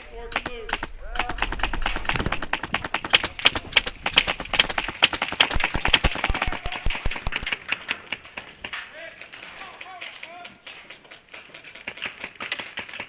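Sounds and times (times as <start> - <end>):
airsoft guns firing: 0.0 - 13.0.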